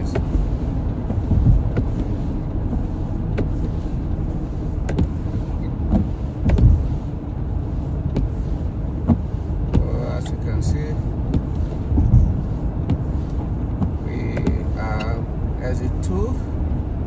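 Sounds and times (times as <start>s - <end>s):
windshield wipers ticking: 0.0s - 16.8s
car road and engine rumble: 0.0s - 17.0s.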